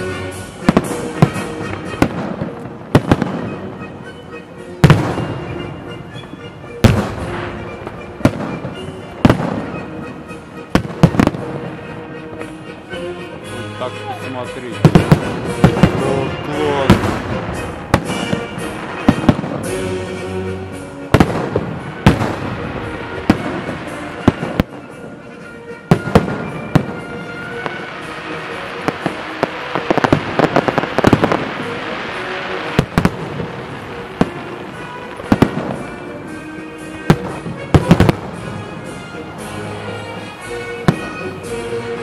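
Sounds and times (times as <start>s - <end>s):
firework crackling: 0.0s - 42.0s
music: 0.0s - 42.0s.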